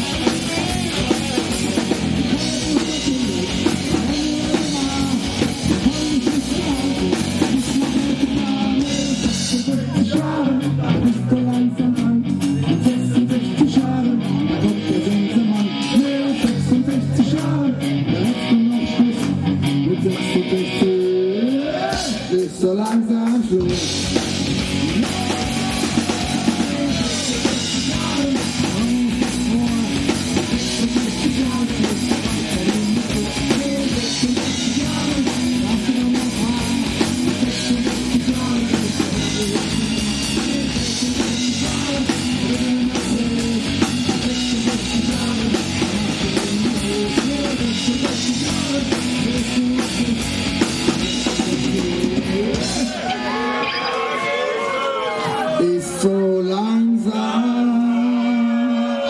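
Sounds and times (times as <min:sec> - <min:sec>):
drum kit: 0:00.0 - 0:53.4
electric guitars: 0:00.0 - 0:56.0.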